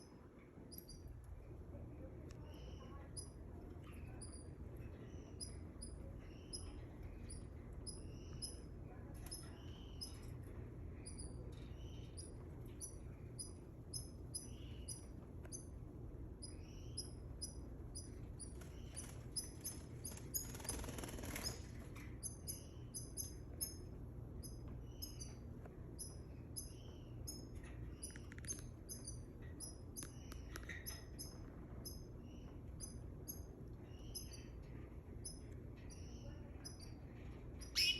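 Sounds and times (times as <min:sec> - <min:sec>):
canaries chirping: 0:00.0 - 0:37.9.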